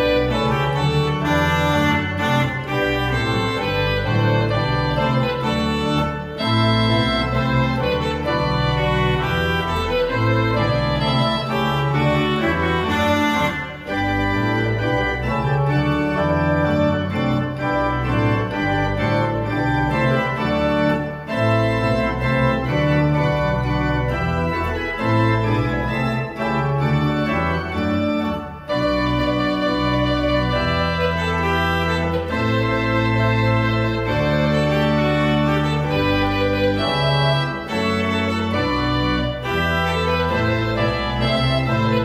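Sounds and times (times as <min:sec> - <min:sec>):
pipe organ playing: 0:00.0 - 0:42.0.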